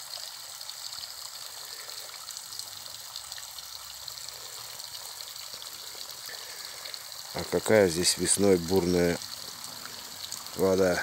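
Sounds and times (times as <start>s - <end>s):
water trickling onto stones: 0.0s - 11.0s.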